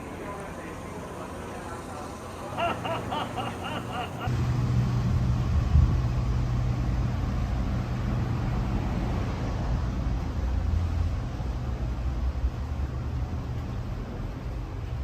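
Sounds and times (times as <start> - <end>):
train rumbling in motion: 0.0 - 15.0.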